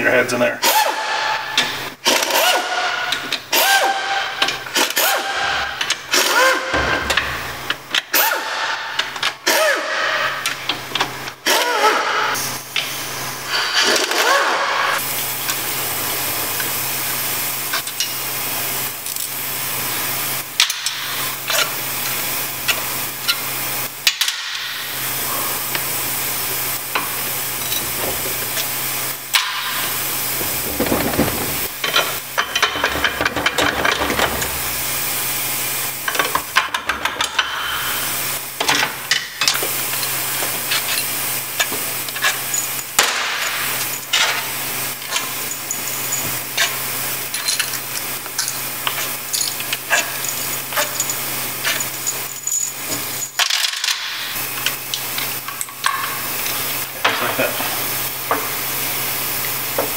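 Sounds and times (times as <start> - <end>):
steady hum and hiss: 0.0 - 59.9.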